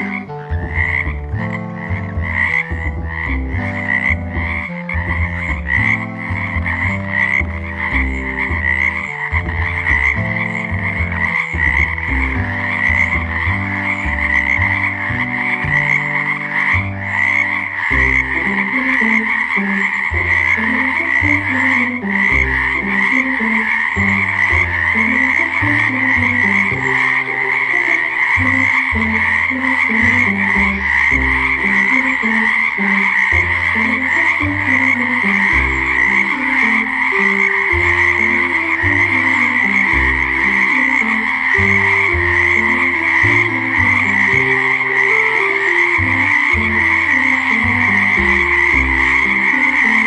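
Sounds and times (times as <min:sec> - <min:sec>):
frogs calling: 0:00.0 - 0:50.0
low melodic music: 0:00.0 - 0:50.0.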